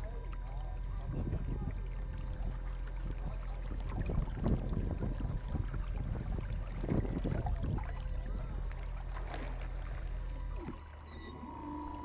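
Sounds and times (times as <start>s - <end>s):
steady low hum: 0.0s - 12.0s
water splashing against boat: 0.0s - 12.0s.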